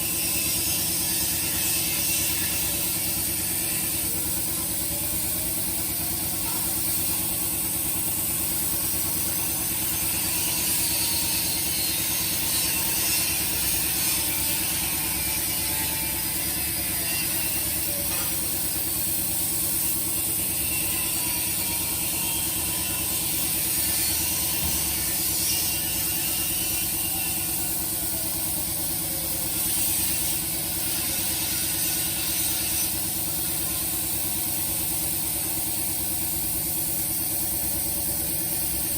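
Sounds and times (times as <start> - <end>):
plasma cutter hissing: 0.0 - 38.9.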